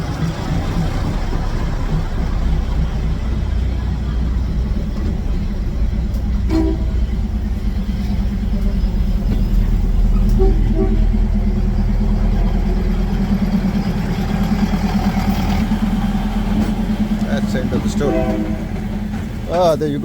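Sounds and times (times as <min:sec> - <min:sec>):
diesel train passing: 0:00.0 - 0:20.0.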